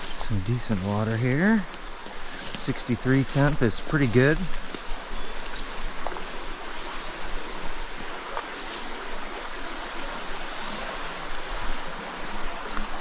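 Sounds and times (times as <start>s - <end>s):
stream water running over rocks: 0.0s - 13.0s.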